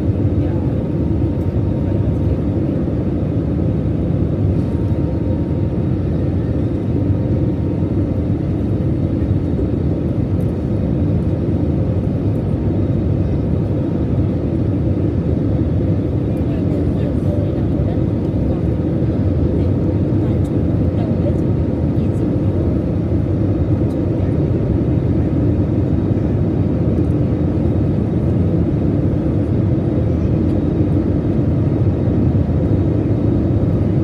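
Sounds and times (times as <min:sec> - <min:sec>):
jet engine cabin rumble: 0:00.0 - 0:34.0.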